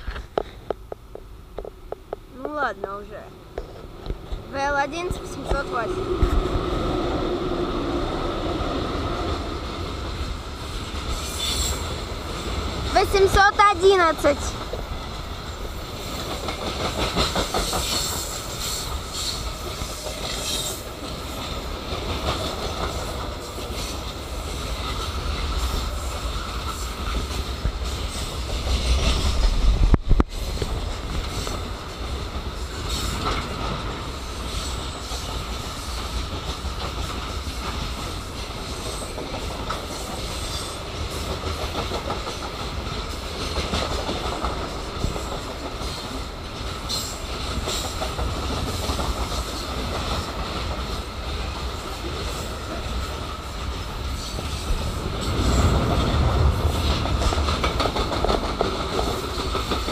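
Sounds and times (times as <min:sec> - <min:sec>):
freight train wagons rolling past: 0:00.0 - 0:59.9
wheels clattering over rail joints: 0:09.2 - 0:59.9.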